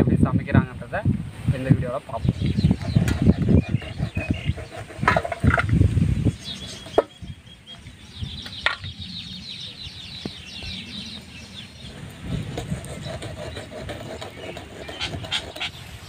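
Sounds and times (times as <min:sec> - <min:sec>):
birds chirping: 0:01.5 - 0:16.0.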